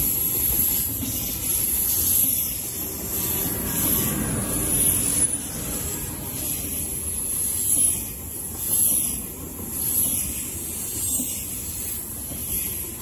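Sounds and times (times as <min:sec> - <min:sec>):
high-speed train passing: 0:00.0 - 0:13.0.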